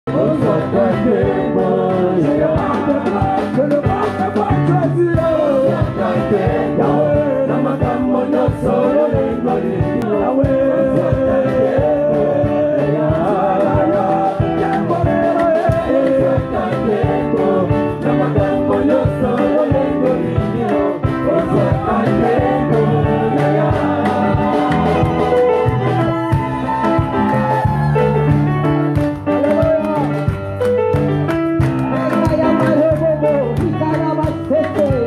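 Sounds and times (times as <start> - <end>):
voices singing gospel: 0.1 - 30.0
band playing steady beat: 0.1 - 35.0.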